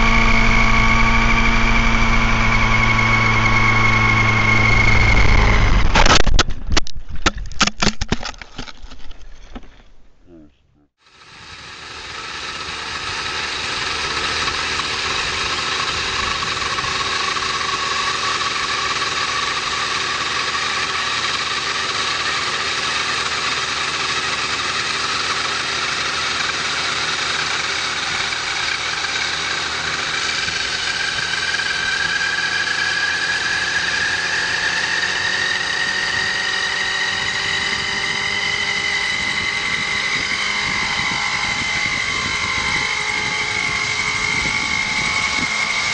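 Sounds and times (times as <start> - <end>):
model helicopter engine whining: 0.0 - 6.1, 11.0 - 45.9.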